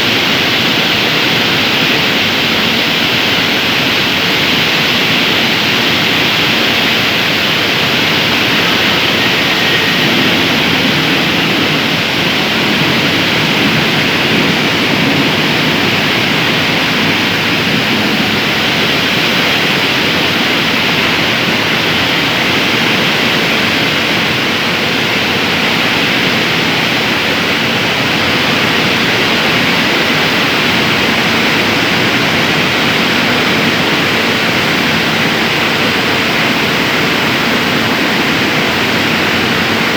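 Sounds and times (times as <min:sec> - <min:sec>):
faint hum: 0:00.0 - 0:39.9
furnace and machinery rushing: 0:00.0 - 0:39.9.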